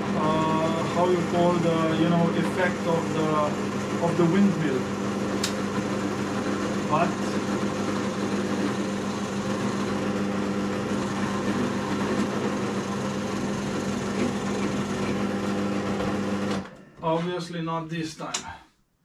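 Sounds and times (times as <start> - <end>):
electric drill boring: 0.0 - 16.6.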